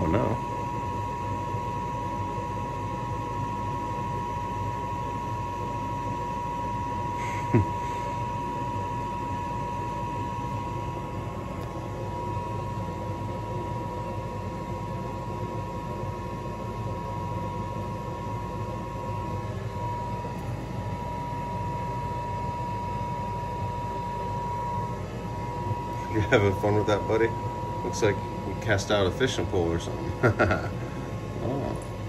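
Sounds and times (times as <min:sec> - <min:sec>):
background hum and hiss: 0:00.0 - 0:32.0
high-pitched whine: 0:00.0 - 0:32.0.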